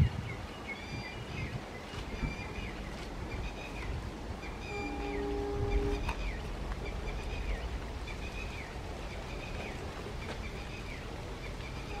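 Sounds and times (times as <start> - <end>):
bird calling: 0.4 - 12.0
train rumbling: 1.2 - 12.0.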